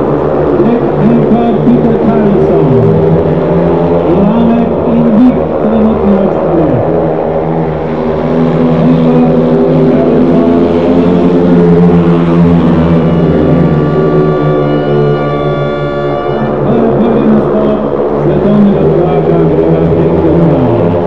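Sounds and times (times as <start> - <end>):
motorcycle engines racing: 0.0 - 21.0.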